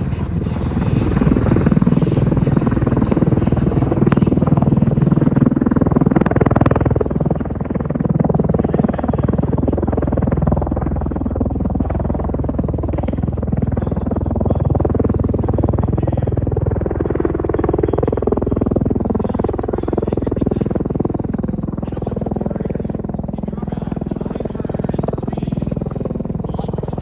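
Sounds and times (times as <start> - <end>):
aircraft engines and rotors rumbling: 0.0 - 27.0.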